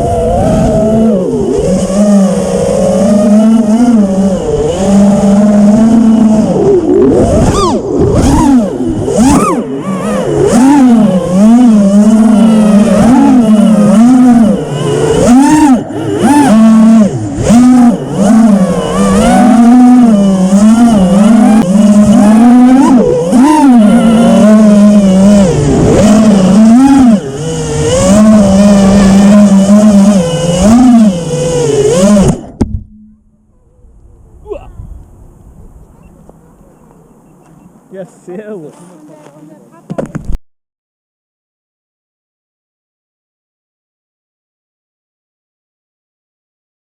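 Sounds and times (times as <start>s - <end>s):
quadcopter motors whining: 0.0s - 40.2s.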